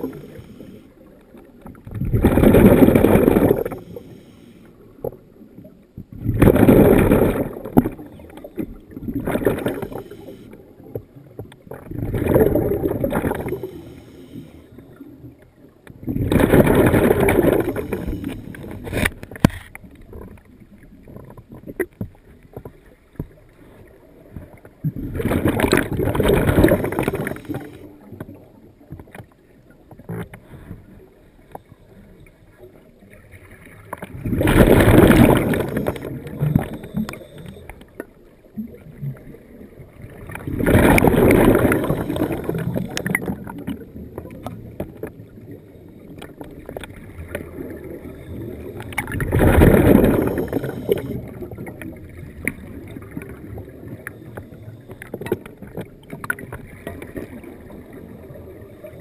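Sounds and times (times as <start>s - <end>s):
underwater regulator bubbles: 0.0s - 29.2s, 32.7s - 59.0s
faint underwater crackling and clicks: 0.0s - 59.0s.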